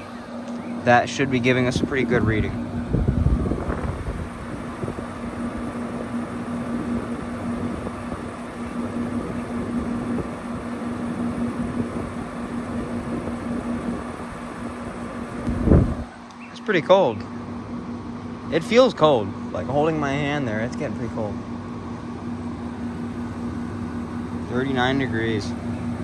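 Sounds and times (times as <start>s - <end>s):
window air conditioner running: 0.0s - 26.0s.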